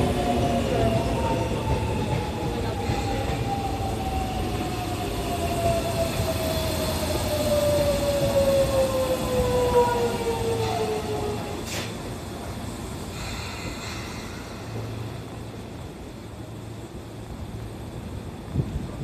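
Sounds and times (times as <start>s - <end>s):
rail rumble: 0.0s - 19.0s.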